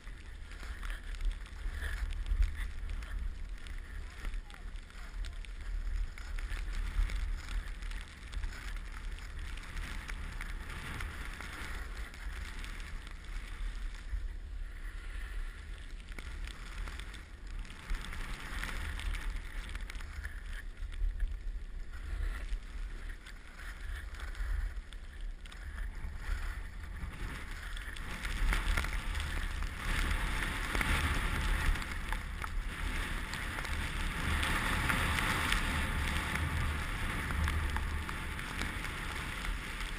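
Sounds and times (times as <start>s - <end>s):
skis scraping over snow: 0.0s - 39.9s
wind buffeting microphone: 0.0s - 39.9s.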